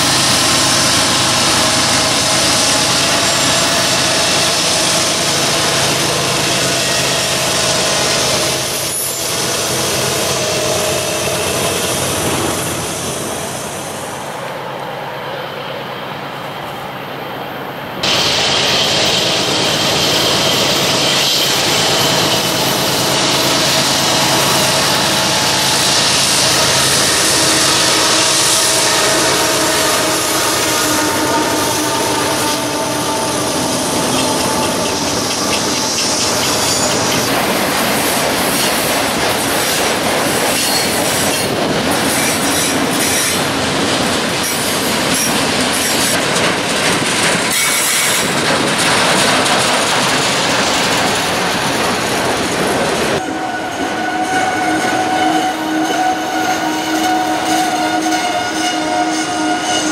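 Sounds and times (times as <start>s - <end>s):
diesel locomotive engine: 0.0s - 59.9s
train wheels on rails: 0.0s - 59.9s.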